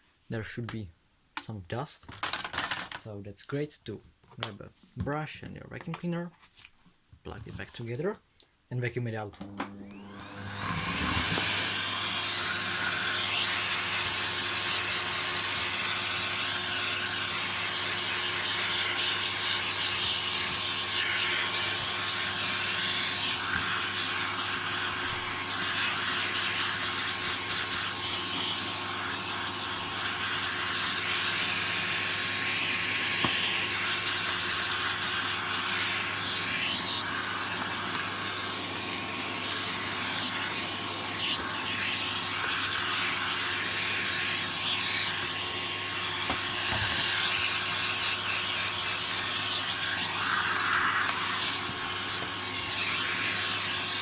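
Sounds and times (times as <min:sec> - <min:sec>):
vacuum cleaner running: 0:09.4 - 0:54.0.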